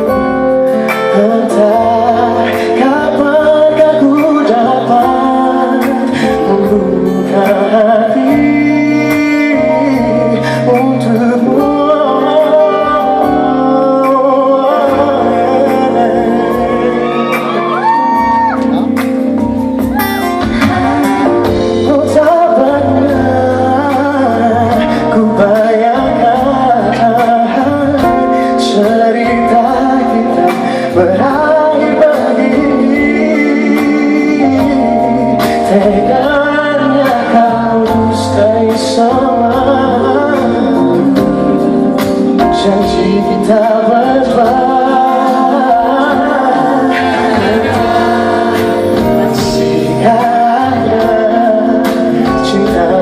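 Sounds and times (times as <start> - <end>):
band playing pop ballad: 0.0 - 53.0
person singing: 0.0 - 53.0.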